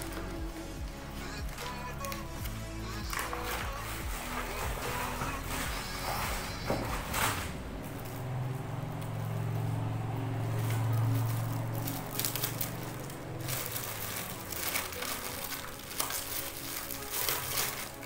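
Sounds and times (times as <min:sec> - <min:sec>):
packaging crinkling: 0:00.0 - 0:08.3, 0:10.3 - 0:18.0
low hum: 0:00.0 - 0:17.0.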